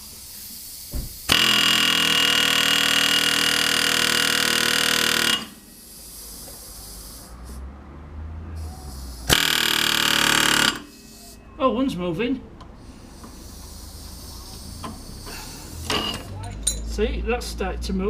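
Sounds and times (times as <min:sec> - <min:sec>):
pneumatic air hammer rattling: 0:00.0 - 0:07.6, 0:08.6 - 0:11.4, 0:12.8 - 0:16.8.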